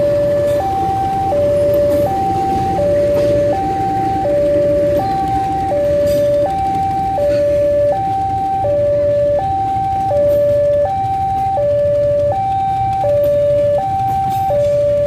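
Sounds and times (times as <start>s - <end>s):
train coaches rumbling past: 0.0s - 15.0s
two-tone crossing alarm: 0.0s - 15.0s.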